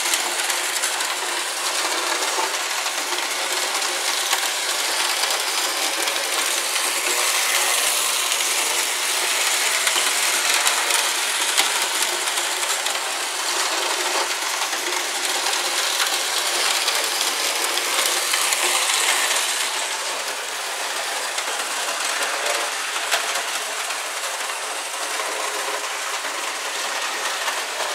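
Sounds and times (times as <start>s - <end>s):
model locomotive metallic rattle: 0.0s - 27.9s.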